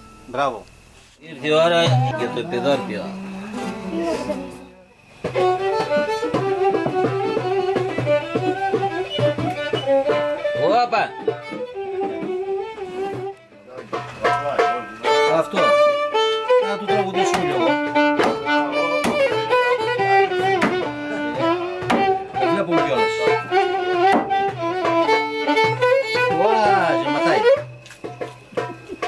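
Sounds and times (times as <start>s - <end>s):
violin melody: 1.5s - 27.8s
plucked lute: 1.7s - 27.0s.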